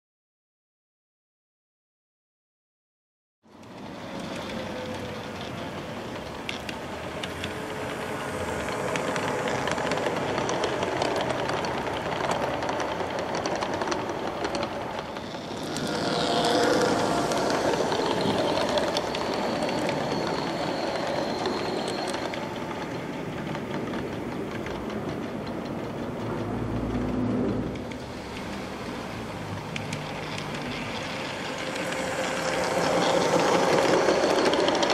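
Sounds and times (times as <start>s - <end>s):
wheels clicking over rails: 3.5s - 34.9s
model train rolling rumble: 3.6s - 34.9s.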